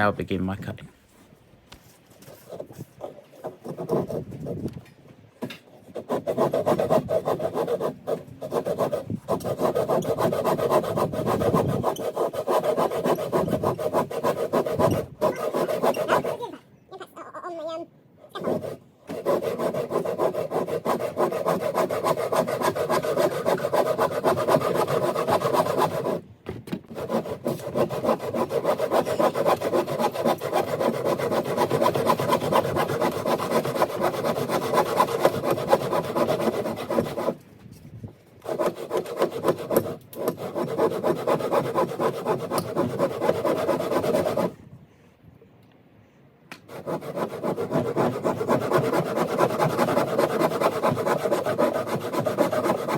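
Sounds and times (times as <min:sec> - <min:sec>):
hand saw cutting timber: 0:02.3 - 0:04.6, 0:05.7 - 0:16.5, 0:18.4 - 0:26.2, 0:26.9 - 0:37.4, 0:38.4 - 0:44.6, 0:46.6 - 0:52.9.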